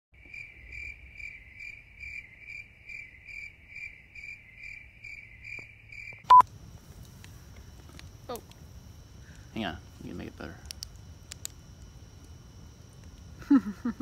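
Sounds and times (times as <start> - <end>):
crickets chirping: 0.2 - 14.0.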